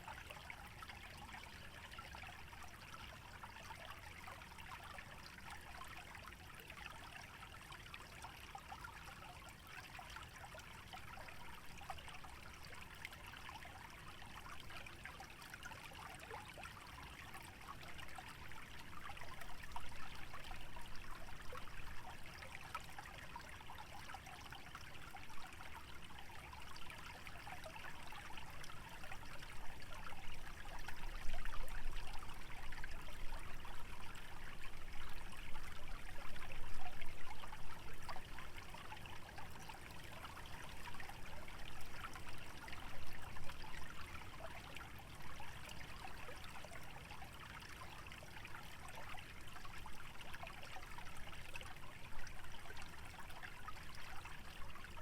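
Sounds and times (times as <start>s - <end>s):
stream trickling and splashing: 0.0s - 55.0s.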